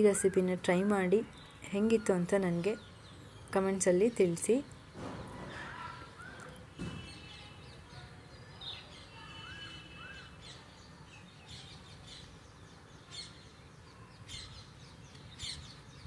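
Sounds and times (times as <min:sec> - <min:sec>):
birds chirping: 0:00.0 - 0:16.0
low steady background noise: 0:00.0 - 0:16.0.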